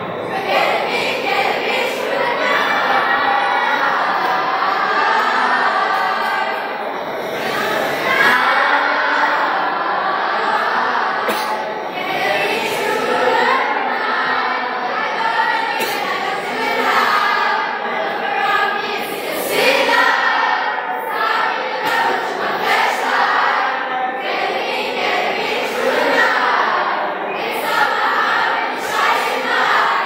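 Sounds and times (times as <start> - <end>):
young voices singing together: 0.0 - 30.0.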